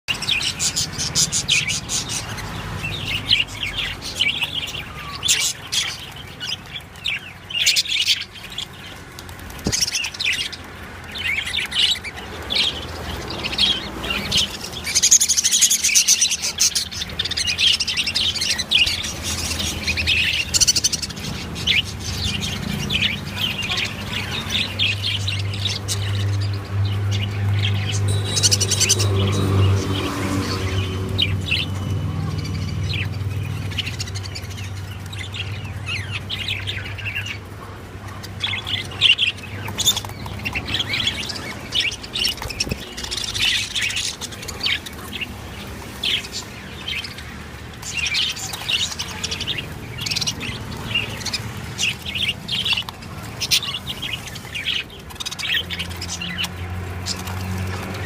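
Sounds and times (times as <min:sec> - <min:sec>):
budgerigars chirping: 0:00.1 - 0:58.0.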